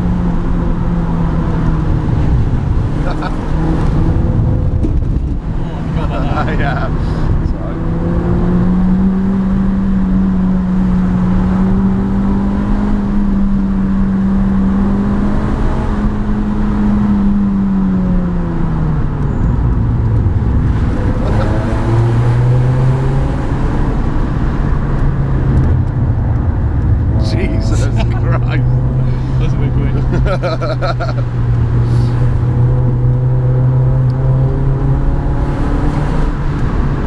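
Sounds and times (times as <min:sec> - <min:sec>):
car engine while driving: 0:00.0 - 0:37.0
road and tyre noise: 0:00.0 - 0:37.0.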